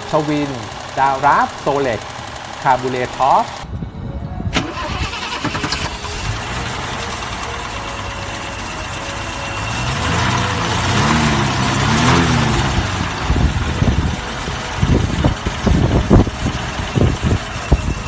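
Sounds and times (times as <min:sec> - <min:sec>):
car engine idling and revving: 0:00.0 - 0:03.7, 0:04.8 - 0:18.0.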